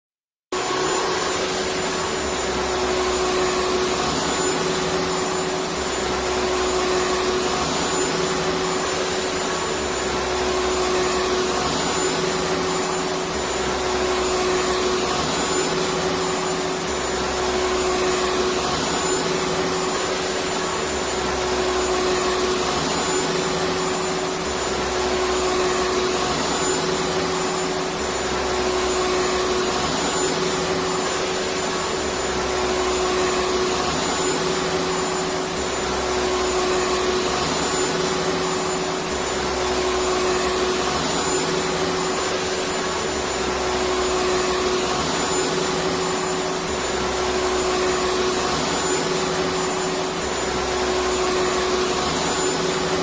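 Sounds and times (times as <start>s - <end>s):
vacuum cleaner running: 0.5s - 53.0s.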